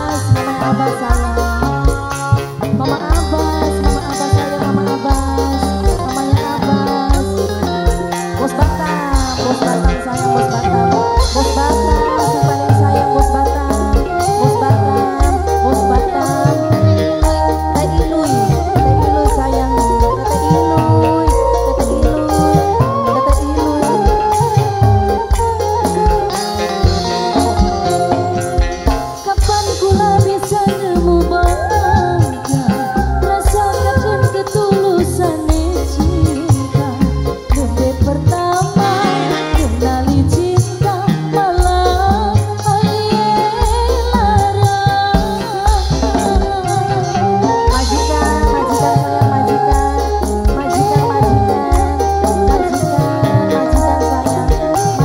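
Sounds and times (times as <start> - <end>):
band playing: 0.0 - 55.0
drum and bass beat: 0.0 - 55.0
person singing: 0.0 - 55.0.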